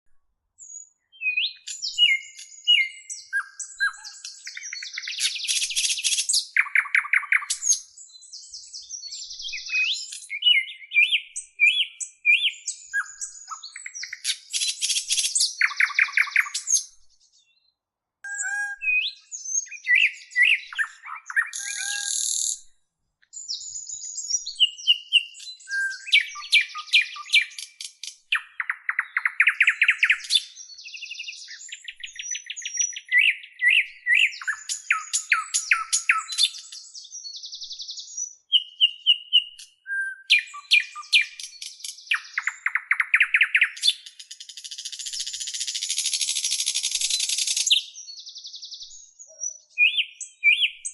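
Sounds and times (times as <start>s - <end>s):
songbird singing: 0.1s - 50.9s.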